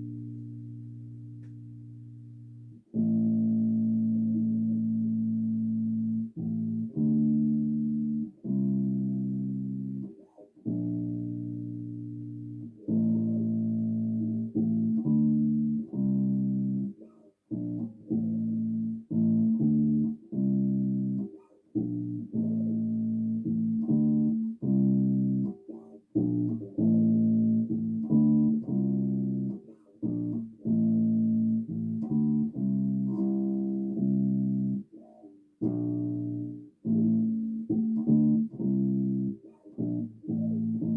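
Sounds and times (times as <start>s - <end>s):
plucked electric bass notes: 0.0s - 40.9s.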